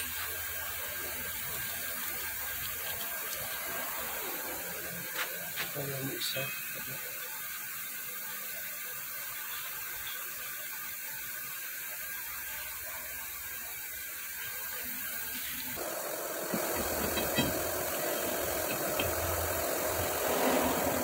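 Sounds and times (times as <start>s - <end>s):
steady hissing background noise: 0.0s - 21.0s.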